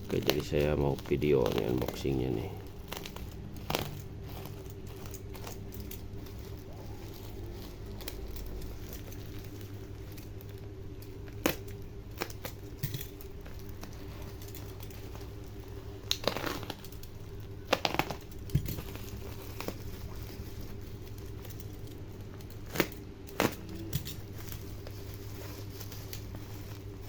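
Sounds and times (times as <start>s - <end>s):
plastic packaging crinkling and tearing: 0.0s - 27.0s.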